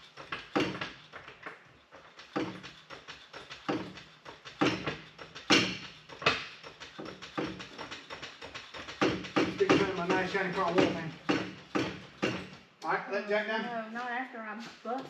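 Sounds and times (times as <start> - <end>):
floor jack metal clanks: 0.0 - 12.7.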